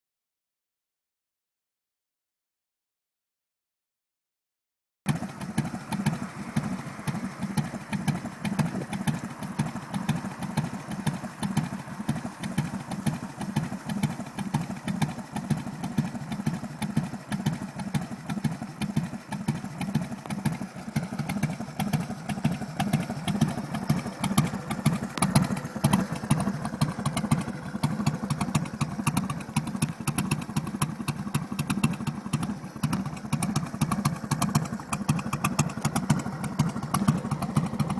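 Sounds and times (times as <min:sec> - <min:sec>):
motorcycle engine idling: 0:05.1 - 0:37.9.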